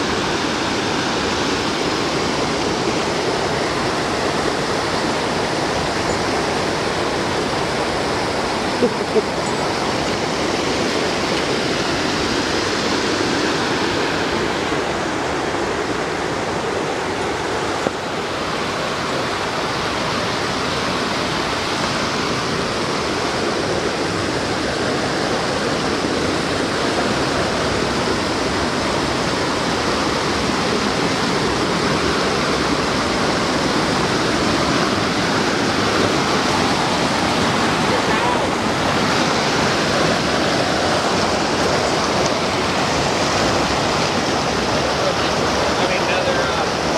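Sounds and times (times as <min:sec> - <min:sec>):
creek rushing over rocks: 0:00.0 - 0:46.9.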